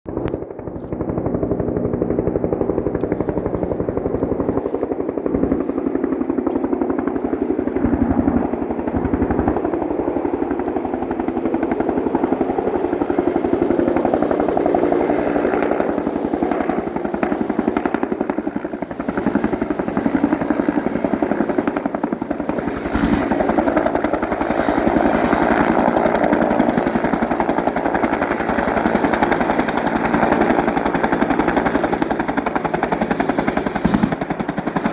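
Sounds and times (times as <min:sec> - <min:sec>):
helicopter rotor beating: 0:00.1 - 0:34.9.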